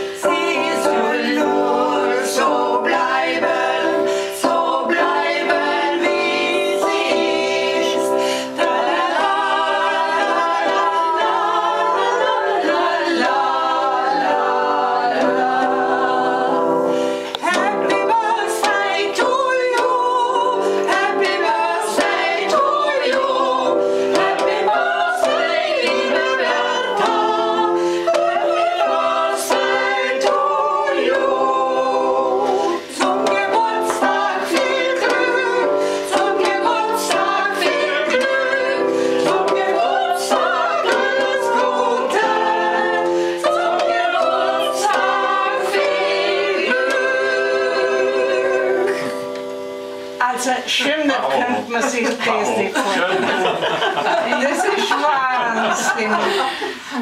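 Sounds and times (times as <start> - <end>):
electronic keyboard chords: 0.0 - 50.3
group of people singing: 0.0 - 57.0.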